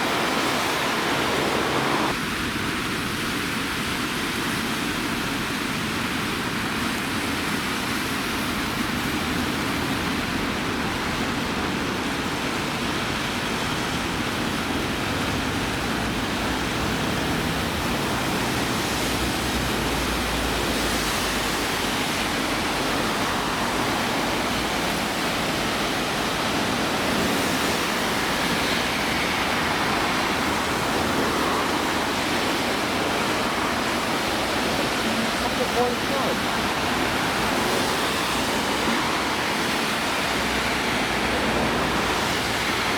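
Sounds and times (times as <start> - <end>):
torrential rain: 0.0 - 42.9.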